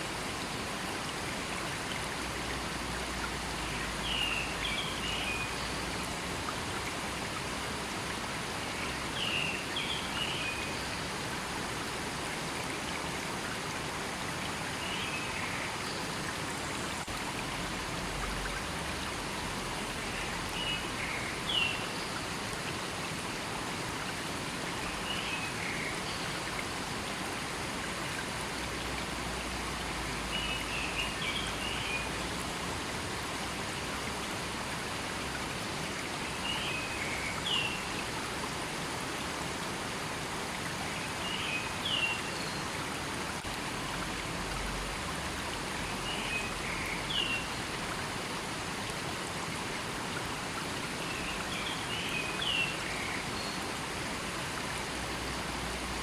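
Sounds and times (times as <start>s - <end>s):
forest river rushing: 0.0s - 56.0s.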